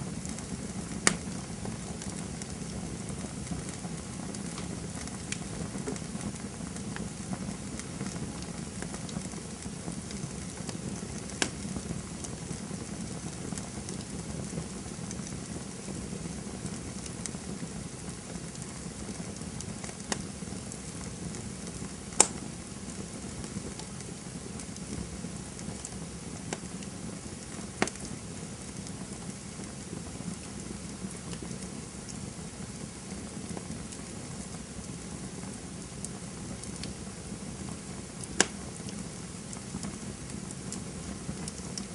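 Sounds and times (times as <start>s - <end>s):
campfire crackling: 0.0s - 41.9s
fire popping: 0.0s - 41.9s.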